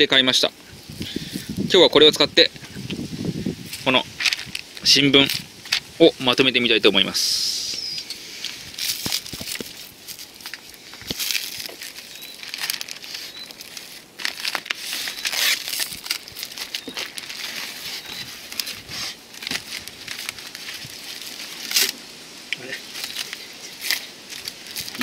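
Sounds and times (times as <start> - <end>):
stretch film crinkling: 0.0 - 7.1, 7.8 - 25.0.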